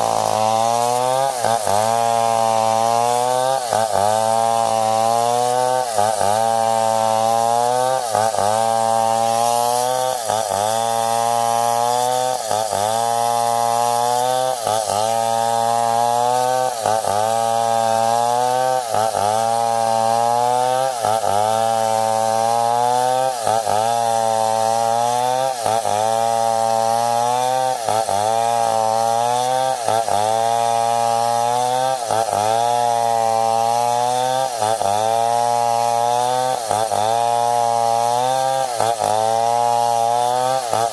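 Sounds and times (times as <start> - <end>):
chainsaw cutting under load: 0.0 - 40.9.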